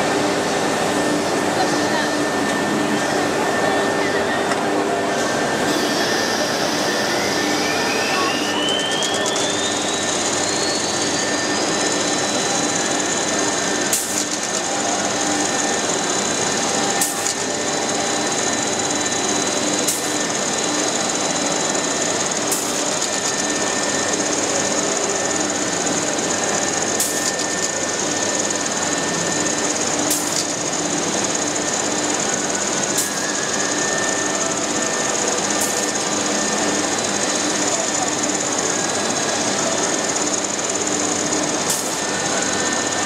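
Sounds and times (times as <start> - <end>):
dense mechanical noise: 0.0 - 43.0
machine spindle whine: 0.0 - 43.0.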